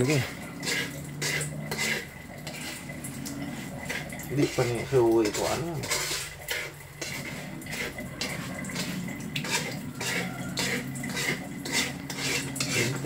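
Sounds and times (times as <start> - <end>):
metal spoon scraping a metal pan: 0.0 - 13.0.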